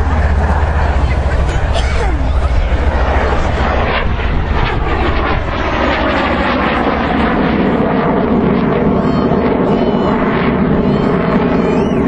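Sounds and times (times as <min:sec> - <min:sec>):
aircraft engines: 0:00.0 - 0:12.0.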